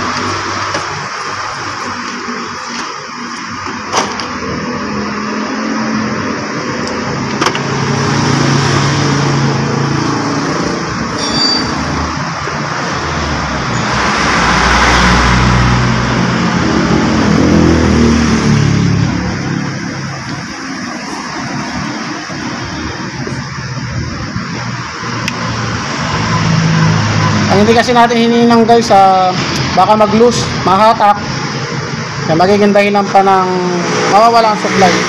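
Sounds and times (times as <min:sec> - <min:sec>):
vehicle engine running: 0:00.0 - 0:28.2
vehicle passing: 0:00.0 - 0:35.0.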